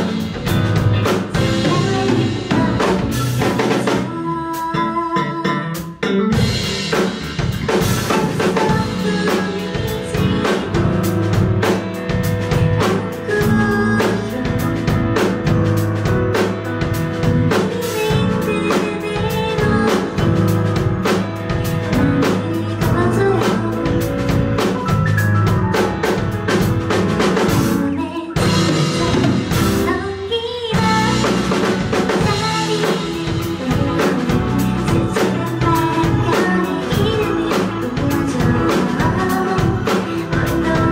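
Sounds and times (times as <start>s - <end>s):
person singing: 0.0s - 6.3s, 7.7s - 12.0s, 12.8s - 15.5s, 17.1s - 20.6s, 21.8s - 25.0s, 27.4s - 40.9s
live band playing: 0.0s - 40.9s.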